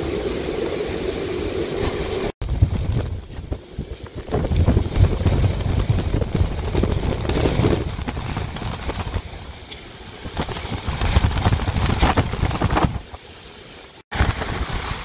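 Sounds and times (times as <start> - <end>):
wind rumble on microphone: 0.0 - 13.3, 14.1 - 15.0
rain and debris rattling: 0.0 - 15.0
wind gusting against car: 1.3 - 9.6, 10.2 - 13.3, 14.1 - 15.0.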